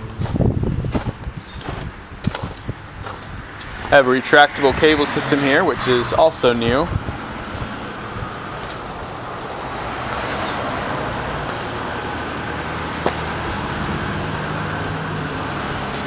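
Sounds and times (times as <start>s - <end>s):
road traffic with engine hum: 0.0s - 16.0s.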